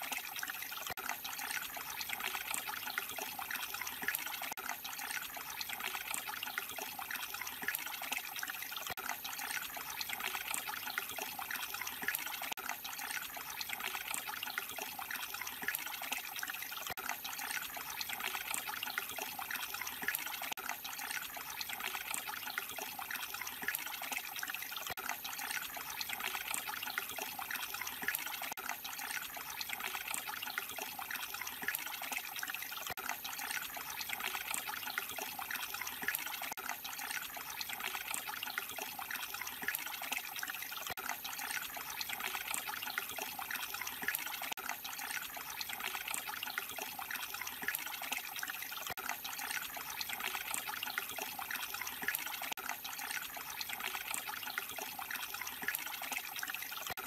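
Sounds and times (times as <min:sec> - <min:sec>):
water trickling over stone: 0:00.0 - 0:57.0.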